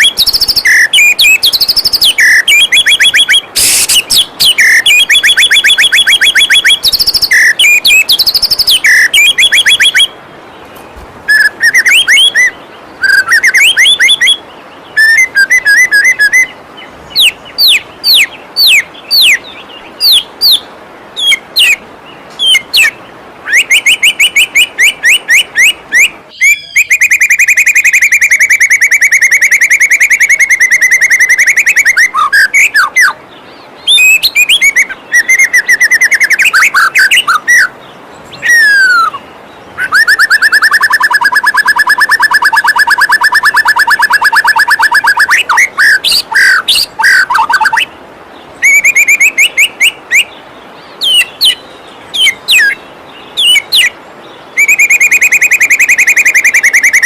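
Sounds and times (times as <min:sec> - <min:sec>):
songbird trills and whistles: 0:00.0 - 0:48.0, 0:48.6 - 0:57.0.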